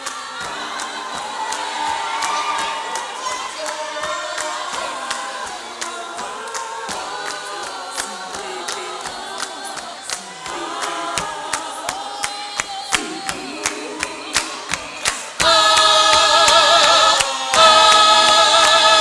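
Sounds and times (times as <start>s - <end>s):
gospel choir singing: 0.0s - 19.0s
hand claps: 0.0s - 19.0s.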